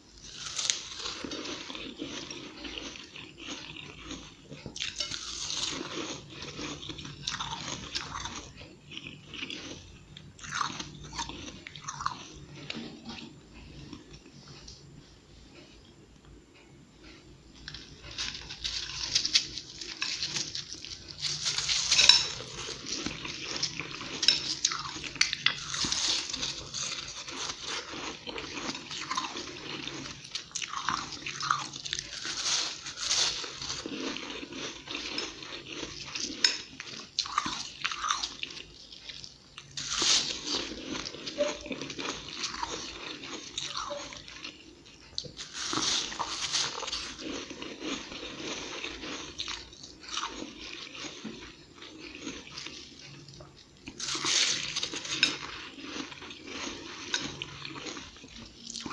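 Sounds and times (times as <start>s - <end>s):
ice being chewed crunching: 0.2s - 14.2s, 17.6s - 58.9s.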